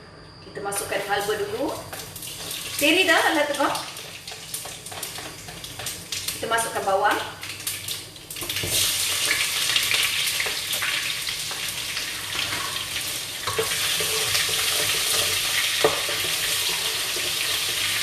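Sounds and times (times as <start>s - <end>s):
onions sizzling in hot oil: 0.6s - 18.0s.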